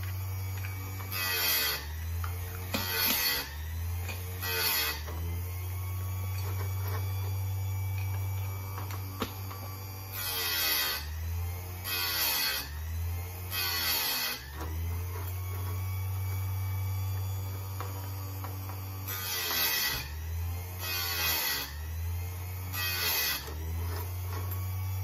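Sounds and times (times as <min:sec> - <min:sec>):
grinding wheel motor humming: 0:00.0 - 0:25.0.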